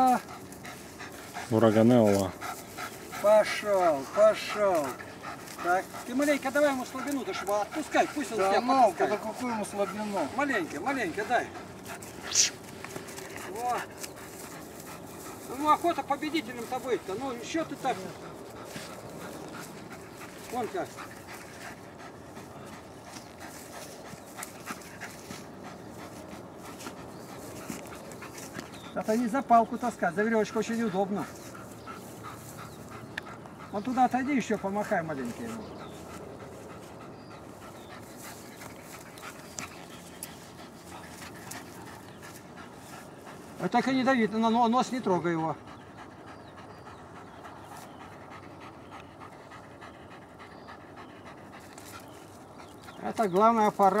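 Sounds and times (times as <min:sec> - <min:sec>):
dog panting hard: 0:00.0 - 0:54.0.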